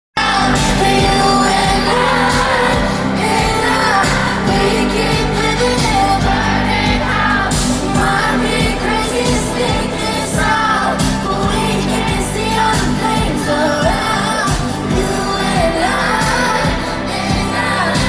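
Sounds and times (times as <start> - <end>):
steady beat with heavy bass: 0.2 - 18.0
woman singing: 0.2 - 18.0.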